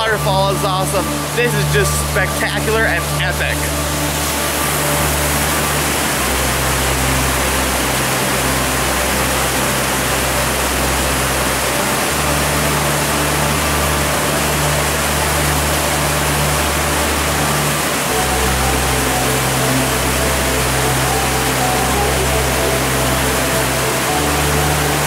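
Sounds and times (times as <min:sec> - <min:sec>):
rushing stream and waterfall: 0:00.0 - 0:25.0.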